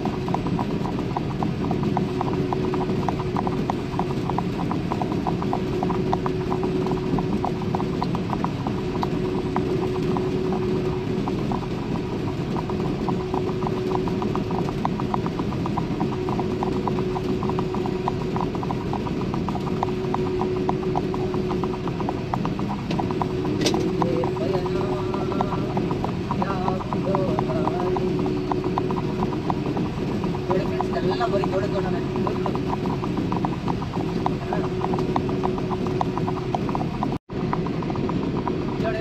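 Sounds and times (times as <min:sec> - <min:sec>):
road and engine drone: 0:00.0 - 0:39.0
steady hum: 0:00.0 - 0:39.0.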